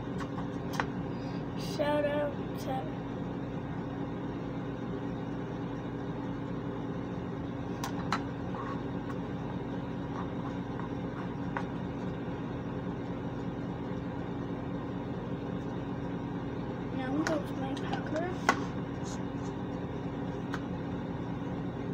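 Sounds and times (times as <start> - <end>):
ventilation fan humming: 0.0 - 21.9.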